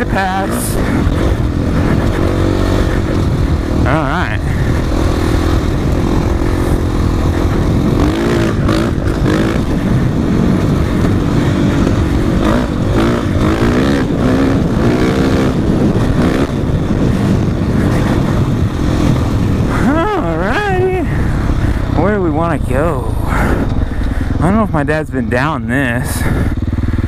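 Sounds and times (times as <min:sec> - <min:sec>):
dirt bike engine revving: 0:00.0 - 0:27.0
steady rushing noise: 0:00.0 - 0:27.0.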